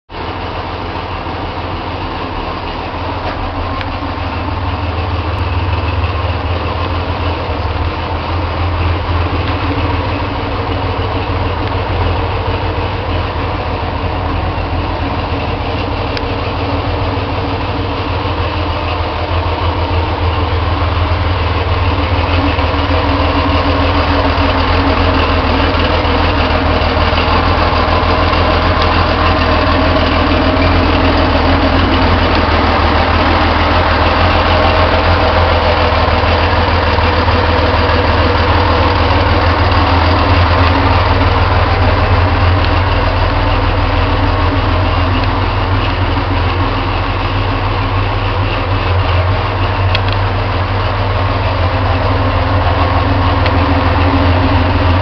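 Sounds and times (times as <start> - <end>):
race car engine idling: 0.1 - 55.0.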